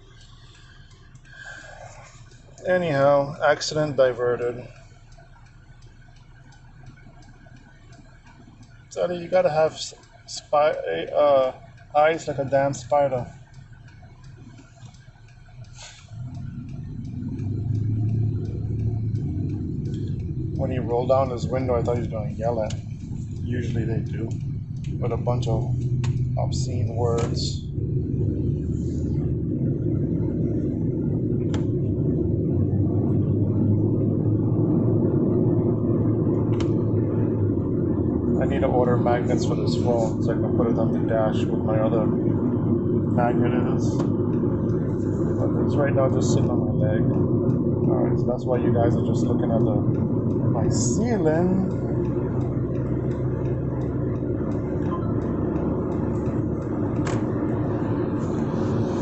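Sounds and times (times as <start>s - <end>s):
car engine rumble: 0.0s - 59.0s
road noise inside car: 0.0s - 59.0s.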